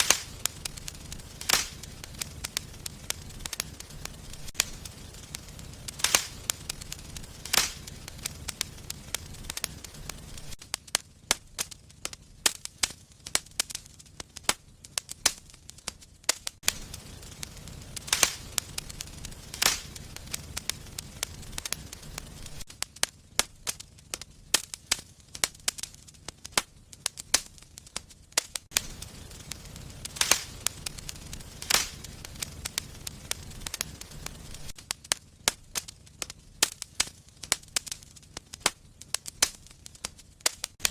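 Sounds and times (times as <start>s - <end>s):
loud sharp fire pops: 0.0s - 40.9s
low rumble of flames: 0.0s - 40.9s
wood fire crackling: 0.0s - 40.9s.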